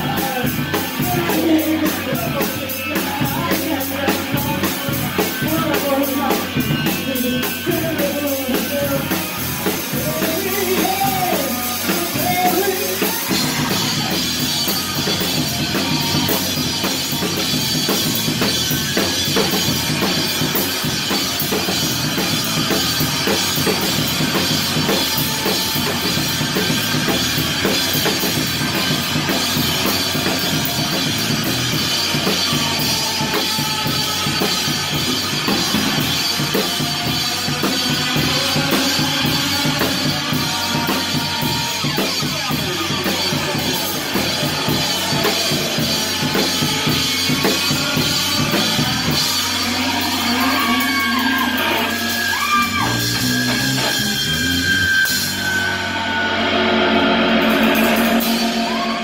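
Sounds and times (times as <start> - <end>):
drum kit played fast: 0.0 - 59.0
live band playing: 0.0 - 59.0.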